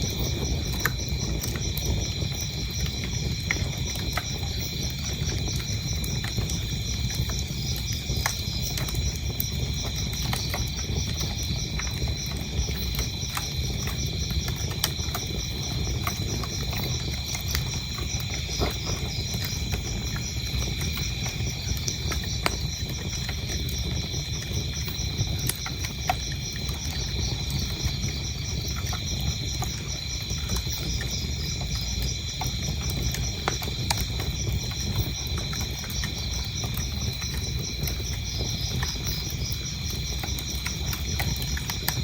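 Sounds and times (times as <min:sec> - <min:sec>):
crickets chirping: 0:00.0 - 0:42.0
wood fire crackling and popping: 0:00.0 - 0:42.0.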